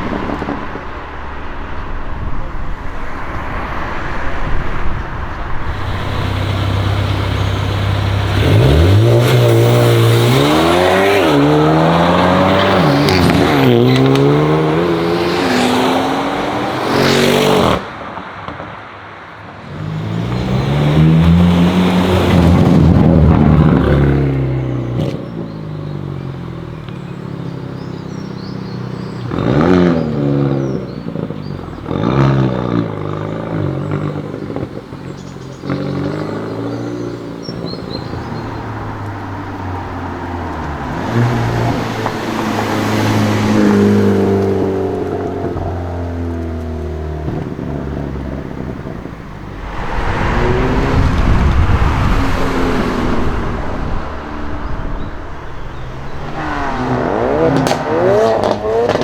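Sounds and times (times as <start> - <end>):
car engine revving: 2.8 - 17.9, 19.7 - 59.0.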